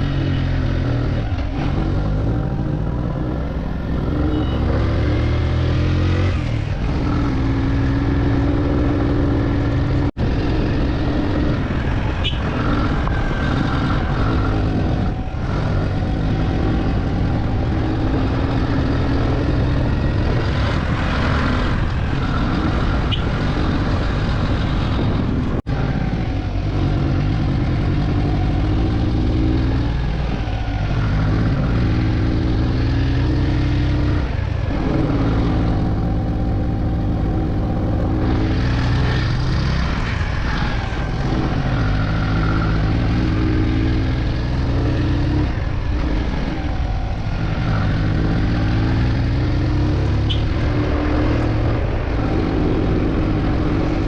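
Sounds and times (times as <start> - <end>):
motorcycle engine revving: 0.0 - 54.0
wind rush on microphone: 6.2 - 54.0.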